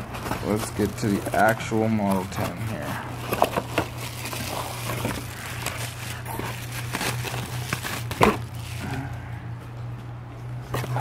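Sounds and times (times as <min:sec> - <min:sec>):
bubble wrap rustling: 0:00.0 - 0:09.2.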